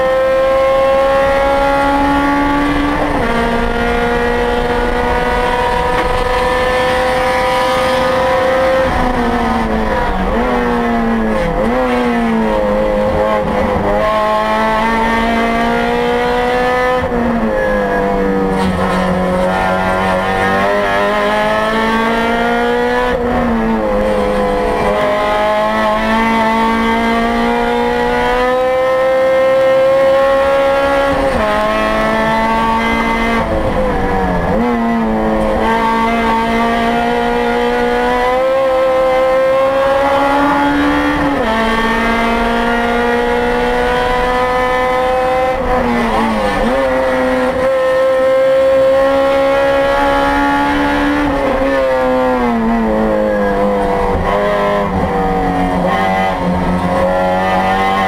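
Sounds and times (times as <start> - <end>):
race car engine from inside cabin: 0.0 - 58.0.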